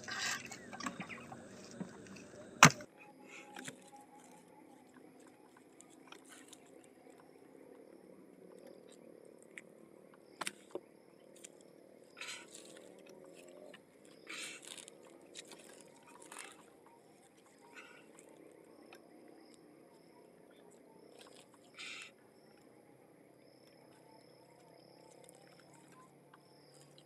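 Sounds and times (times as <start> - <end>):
faint steady drone: 0.0 - 27.0.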